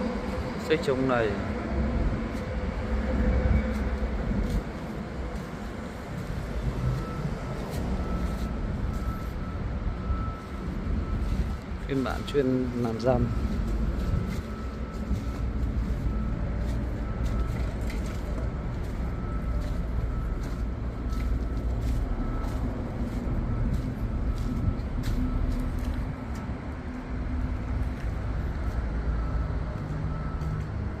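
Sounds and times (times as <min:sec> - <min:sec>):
bulldozer diesel engine rumbling: 0:00.0 - 0:31.0.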